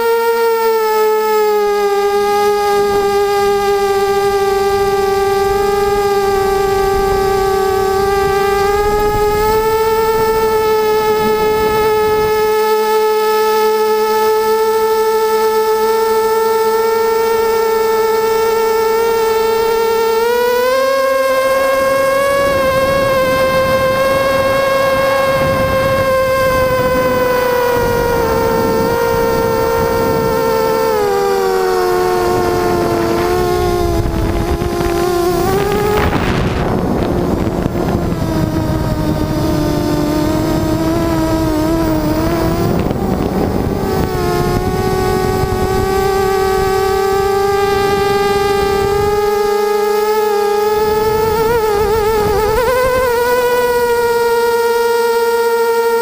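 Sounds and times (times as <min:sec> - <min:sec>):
drone motors high buzzing whine: 0:00.0 - 0:56.0
low rushing noise: 0:02.1 - 0:13.7, 0:17.3 - 0:54.8.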